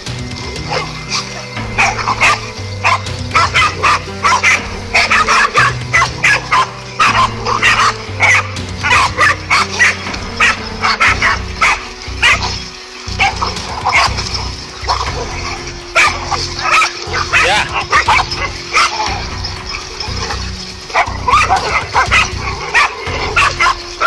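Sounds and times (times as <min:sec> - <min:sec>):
dogs barking excitedly: 0:00.0 - 0:24.0
low musical drone: 0:00.0 - 0:24.0.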